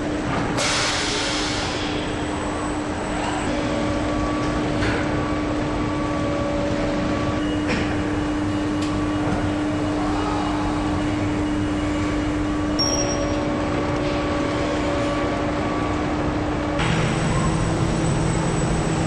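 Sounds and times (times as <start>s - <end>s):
factory machinery hum: 0.0s - 19.0s.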